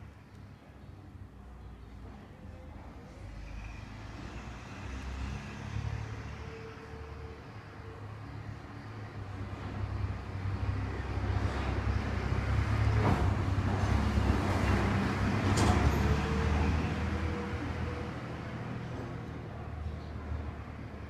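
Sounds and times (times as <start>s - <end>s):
passing vehicle rumble: 1.9s - 21.0s.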